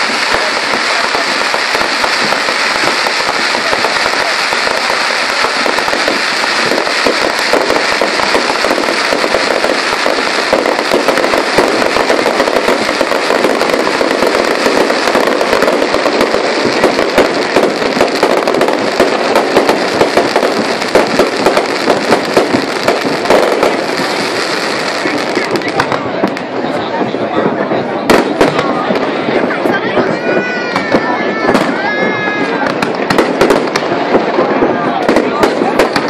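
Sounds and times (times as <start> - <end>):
fireworks crackling and banging: 0.0 - 36.0.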